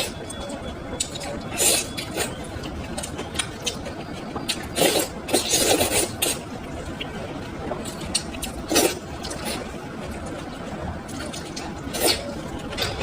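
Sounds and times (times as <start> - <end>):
wet chewing and slurping: 0.0 - 12.9.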